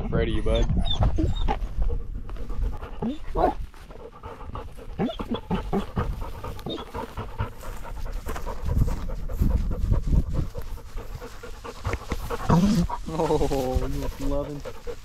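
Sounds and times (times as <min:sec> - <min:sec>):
dog panting: 0:00.6 - 0:15.0.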